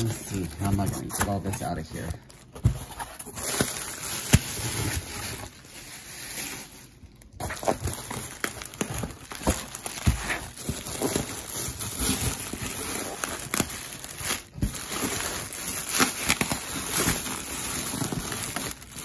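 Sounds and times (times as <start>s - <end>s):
bubble wrap crinkling in a box: 0.0s - 19.0s.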